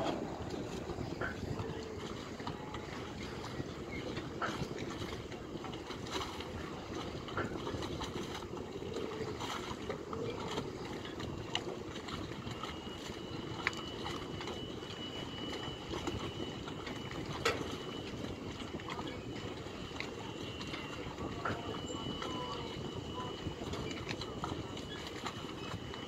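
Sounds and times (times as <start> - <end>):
boat noise: 0.0 - 26.0
low rumble of wind: 0.0 - 26.0.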